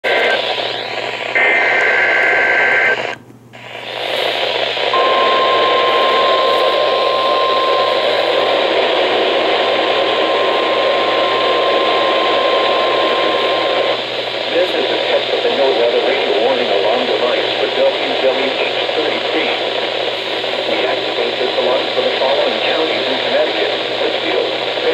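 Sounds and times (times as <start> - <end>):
heavy static hiss: 0.0 - 24.9.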